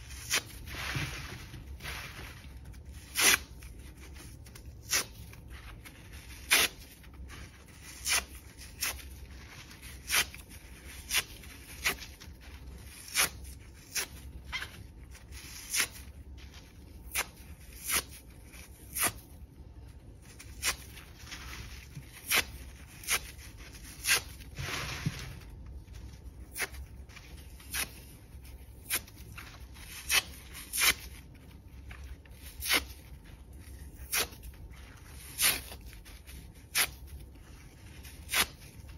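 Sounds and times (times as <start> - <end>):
sponge tearing: 0.0 - 19.4, 20.2 - 38.9.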